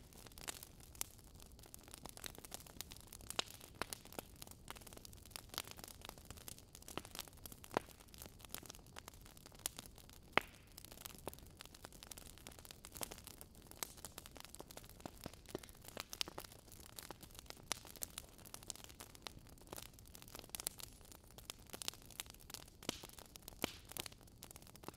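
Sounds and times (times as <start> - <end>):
faint steady hiss: 0.0 - 24.9
wood fire crackling: 0.0 - 24.9.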